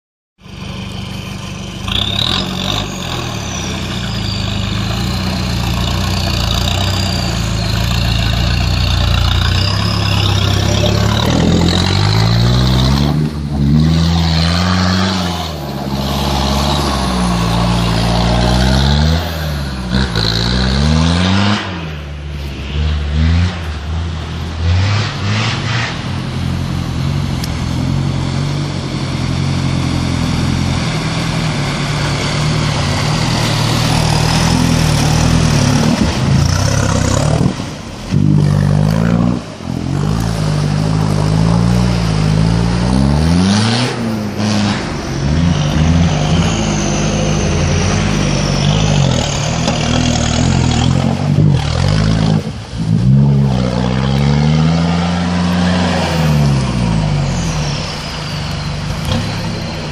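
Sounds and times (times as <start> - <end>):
off-road engine revving: 0.4 - 59.9.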